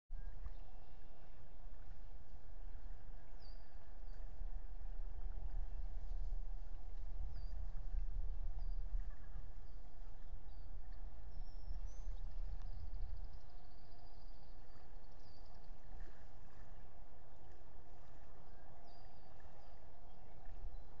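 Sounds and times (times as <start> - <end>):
wind rumbling on microphone: 0.1 - 21.0.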